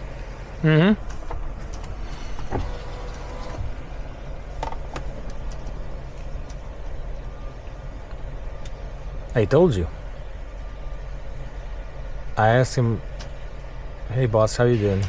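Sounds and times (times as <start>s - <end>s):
diesel truck engine idling: 0.0s - 14.6s.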